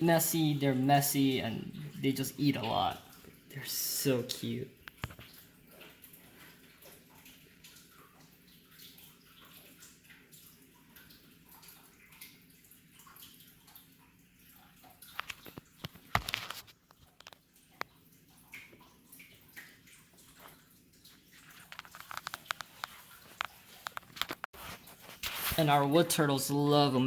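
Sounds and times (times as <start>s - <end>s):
water splashing in a tank: 0.0s - 27.0s.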